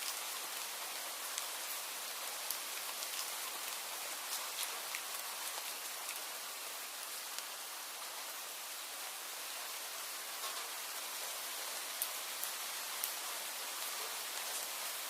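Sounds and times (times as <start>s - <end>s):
raindrops ticking on hard surface: 0.0s - 7.6s, 10.3s - 15.0s
rain hiss: 0.0s - 15.0s.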